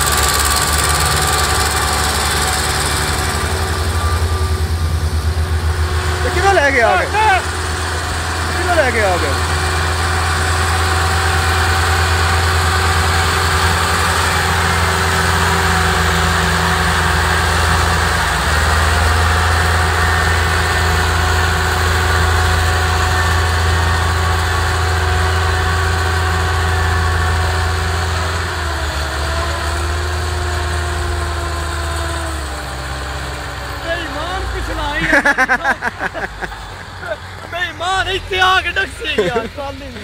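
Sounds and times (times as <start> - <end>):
tractor diesel engines under load: 0.0 - 40.0.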